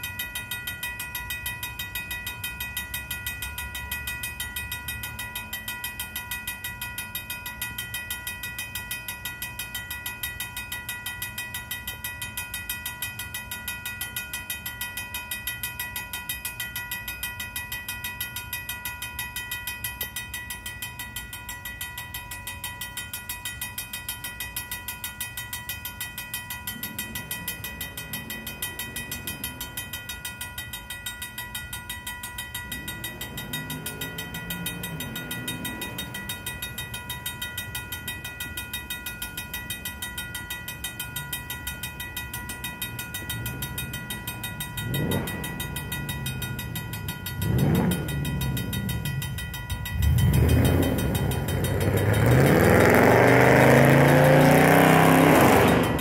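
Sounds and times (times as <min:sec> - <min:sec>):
railroad crossing bell ringing: 0:00.0 - 0:56.0.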